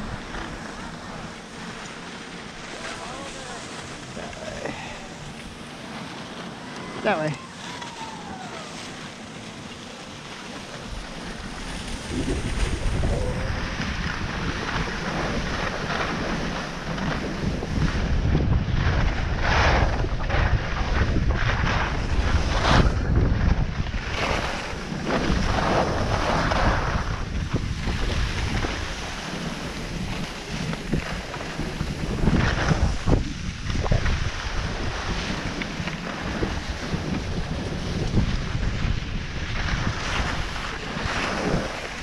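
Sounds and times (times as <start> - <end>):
skis scraping on snow: 0.0 - 42.0
wind rumbling on microphone: 0.0 - 42.0.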